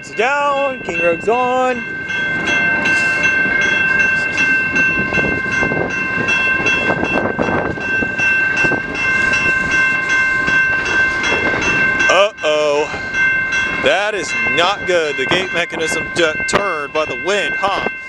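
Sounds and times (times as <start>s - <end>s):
freight train rumbling: 0.0s - 18.0s
railroad crossing bell ringing: 0.0s - 18.0s.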